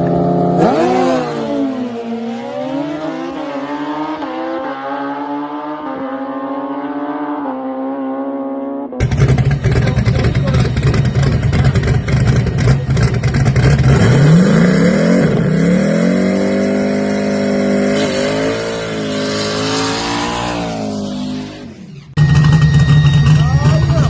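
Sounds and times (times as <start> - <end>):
drag racing car accelerating: 0.0 - 24.0.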